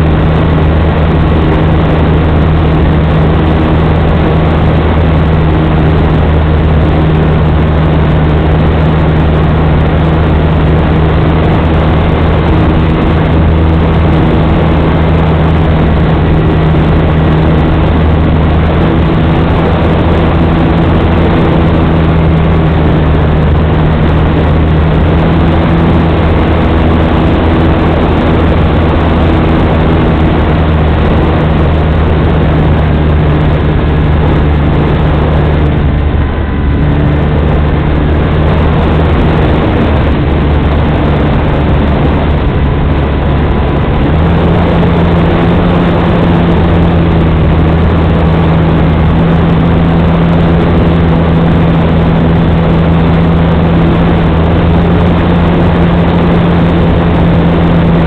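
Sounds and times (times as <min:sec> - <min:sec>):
model aircraft motor and propeller: 0:00.0 - 0:58.0
wind rushing over microphone: 0:00.0 - 0:58.0.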